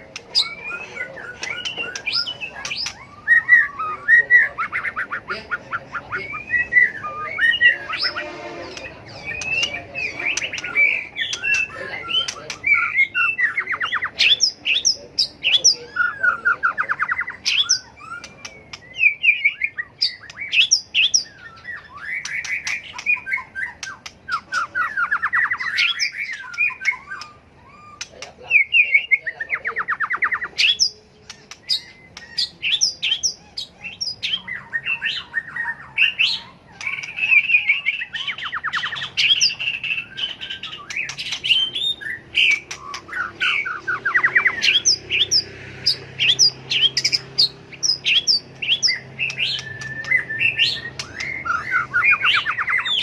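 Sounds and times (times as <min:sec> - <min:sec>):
bird singing whistled phrases: 0:00.3 - 0:53.0.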